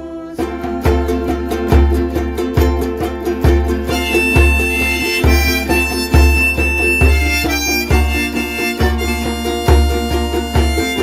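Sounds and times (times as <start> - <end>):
ukulele ensemble music: 0.0 - 11.0.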